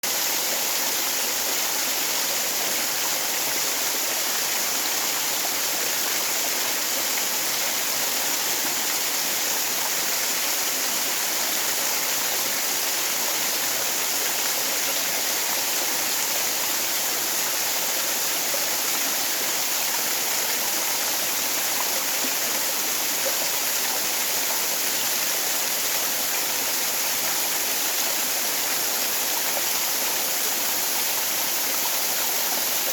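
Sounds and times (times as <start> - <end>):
waterfall and stream rushing: 0.0 - 32.9.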